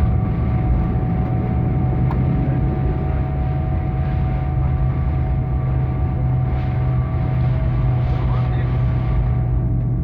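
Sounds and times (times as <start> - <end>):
jet engine drone: 0.0 - 10.0.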